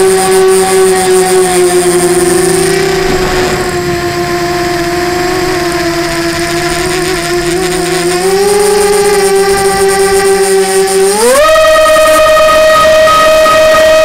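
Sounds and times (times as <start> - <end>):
model aircraft motors whining: 0.0 - 14.0.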